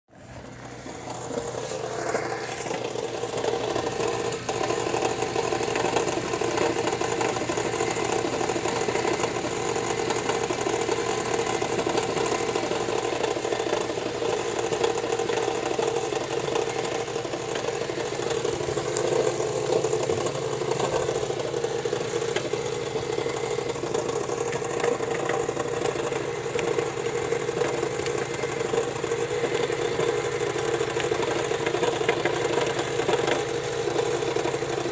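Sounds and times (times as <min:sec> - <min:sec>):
car engine idling: 0:00.1 - 0:34.9
rapid engine knock: 0:00.5 - 0:34.9.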